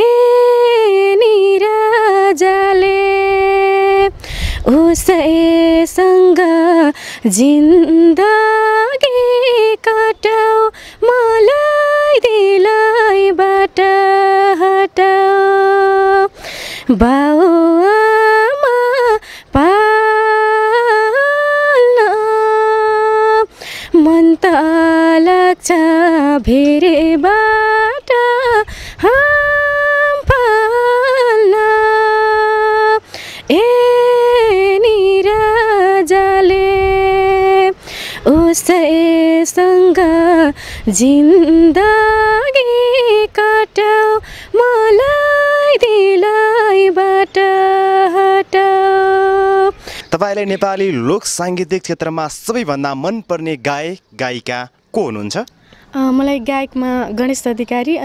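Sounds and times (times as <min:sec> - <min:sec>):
woman singing unaccompanied: 0:00.0 - 0:50.1, 0:55.8 - 0:58.0.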